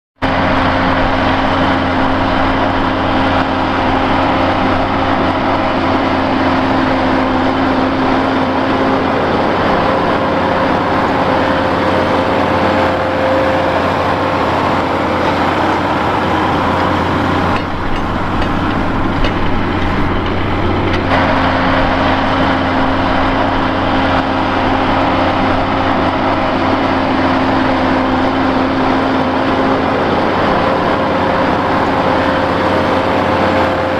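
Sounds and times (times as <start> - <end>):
steady tone: 0.2 - 33.9
tractor diesel engine running: 0.2 - 33.9.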